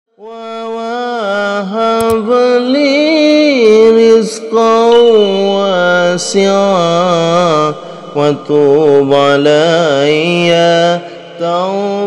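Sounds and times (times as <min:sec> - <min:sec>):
person chanting slow melody: 0:00.2 - 0:12.0.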